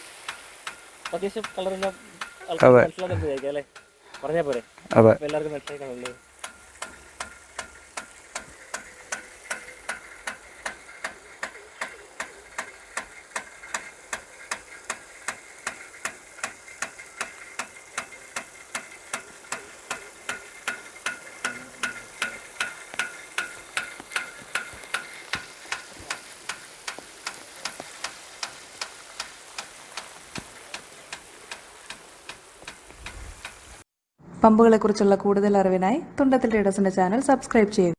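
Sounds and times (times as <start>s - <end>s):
sprinkler arm ticking: 0.0s - 33.8s
sprinkler spraying water: 0.0s - 33.9s.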